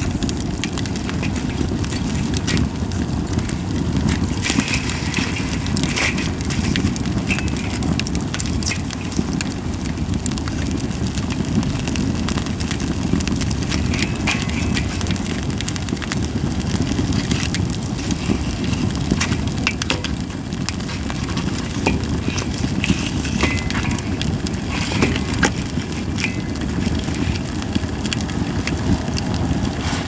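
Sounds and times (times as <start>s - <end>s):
campfire crackling pops: 0.0s - 30.0s
fire low rumble: 0.0s - 30.0s.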